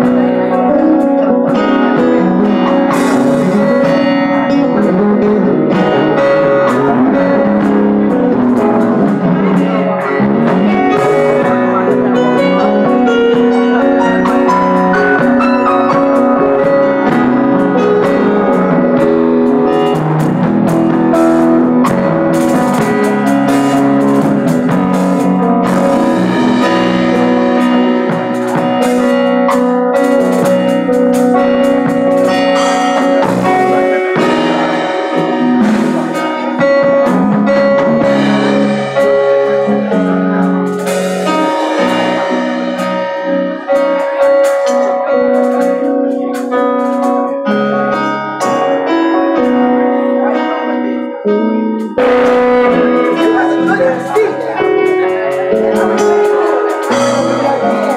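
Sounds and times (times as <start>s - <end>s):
drum beat: 0.0s - 47.3s, 51.8s - 57.9s
keyboard chords: 0.0s - 57.9s.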